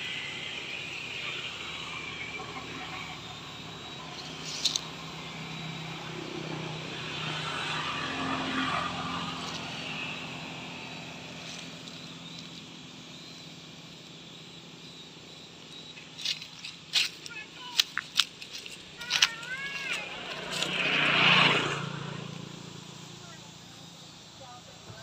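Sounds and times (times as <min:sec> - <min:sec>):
motorbike engine passing: 0:00.0 - 0:17.8, 0:18.4 - 0:25.0.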